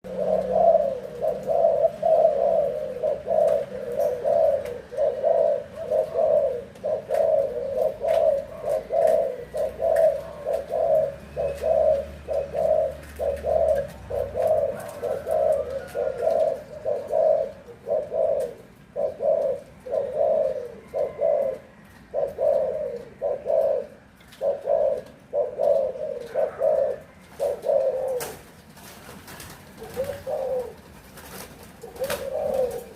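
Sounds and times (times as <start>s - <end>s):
dove cooing: 0.0s - 32.9s.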